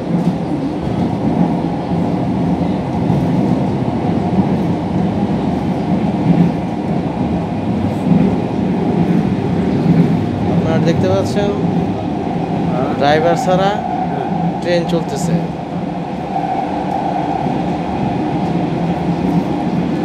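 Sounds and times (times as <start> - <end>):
train running through a tunnel: 0.0 - 20.0.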